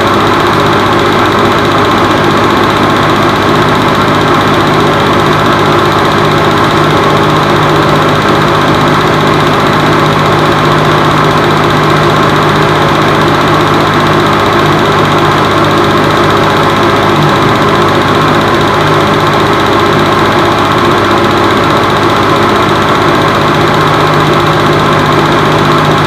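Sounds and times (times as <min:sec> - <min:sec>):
film projector whirring: 0:00.0 - 0:26.0.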